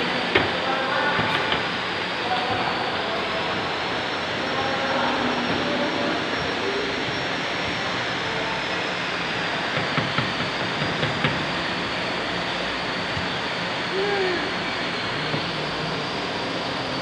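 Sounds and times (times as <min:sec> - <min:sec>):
turbine machine noise: 0:00.0 - 0:17.0.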